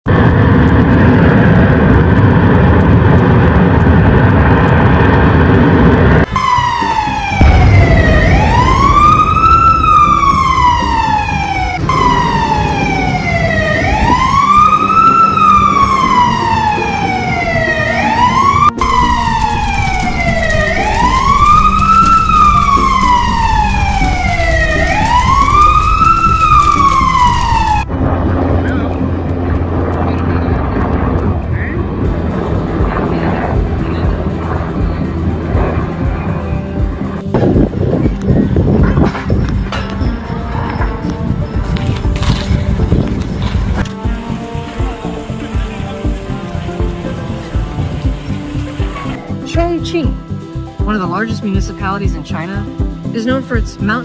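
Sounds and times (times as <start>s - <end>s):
loud rushing noise: 0.1s - 49.5s
emergency vehicle siren wailing: 0.1s - 54.0s.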